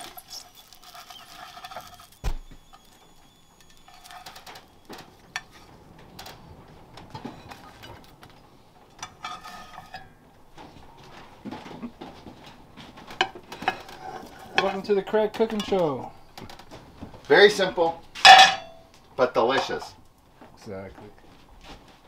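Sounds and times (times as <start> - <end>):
utensils scraping frying pan: 0.0 - 19.9
faint frying sizzle: 0.0 - 20.7.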